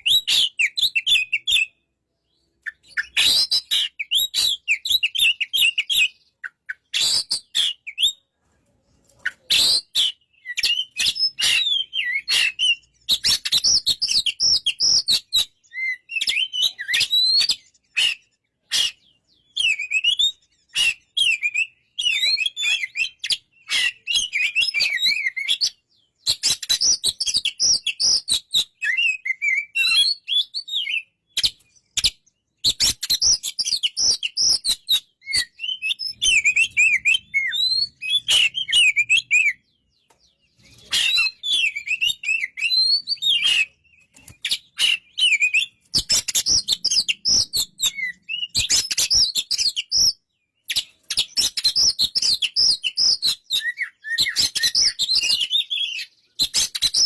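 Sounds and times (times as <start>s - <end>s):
magpie-robin chirping song: 0.0s - 8.3s, 8.9s - 57.0s.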